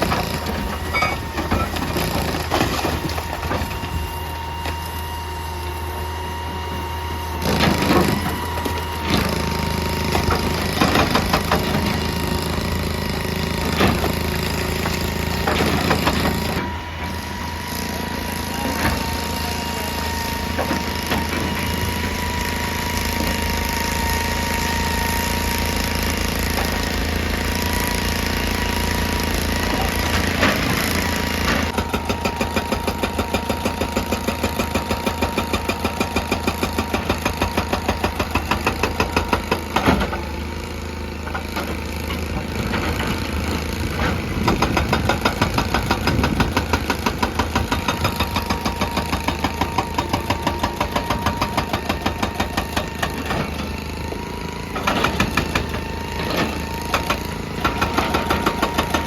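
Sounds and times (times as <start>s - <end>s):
hydraulic breaker hammering rock: 0.0s - 4.8s, 7.4s - 59.0s
excavator engine running: 0.0s - 59.0s.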